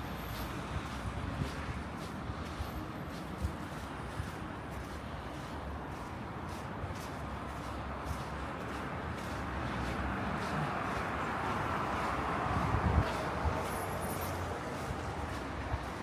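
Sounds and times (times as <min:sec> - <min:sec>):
car passing on snowy street: 0:00.0 - 0:16.0.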